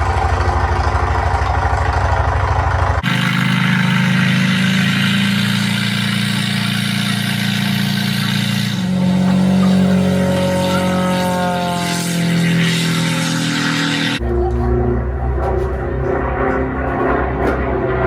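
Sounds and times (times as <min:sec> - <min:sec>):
piston aircraft engine: 0:00.0 - 0:18.0
rising tones: 0:03.0 - 0:18.0.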